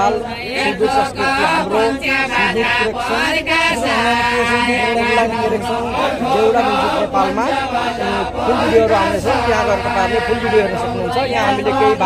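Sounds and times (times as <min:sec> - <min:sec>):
voices chanting folk song: 0:00.0 - 0:12.0.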